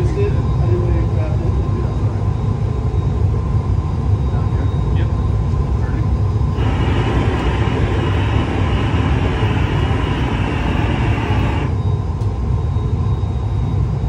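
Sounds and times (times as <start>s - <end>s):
gas burners rumbling: 0.0s - 14.0s.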